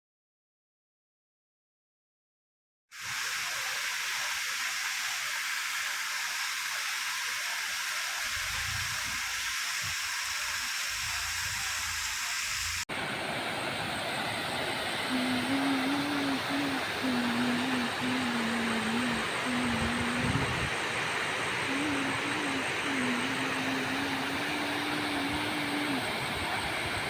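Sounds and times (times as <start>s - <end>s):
flowing water rushing: 3.0s - 27.0s.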